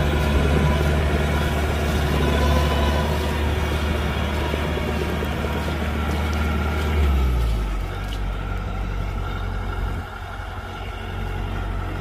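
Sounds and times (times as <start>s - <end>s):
diesel engine droning: 0.0s - 12.0s
machinery hum: 0.0s - 12.0s.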